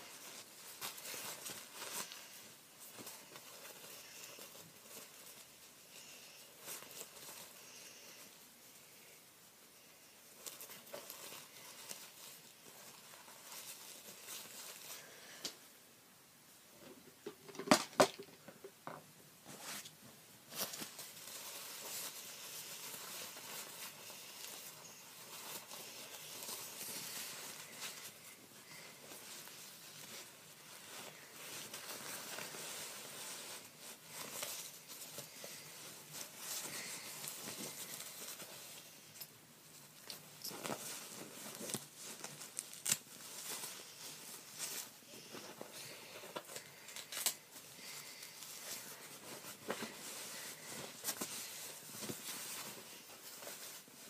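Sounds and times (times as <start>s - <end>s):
diaper and wipes crinkling: 0.0s - 8.4s, 10.2s - 15.4s, 19.5s - 54.0s.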